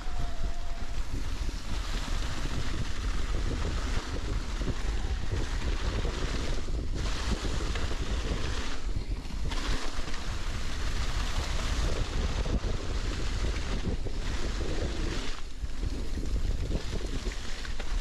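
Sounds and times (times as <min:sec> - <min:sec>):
bike tyres rolling through leaves: 0:00.0 - 0:18.0
wind rushing over microphone: 0:00.0 - 0:18.0.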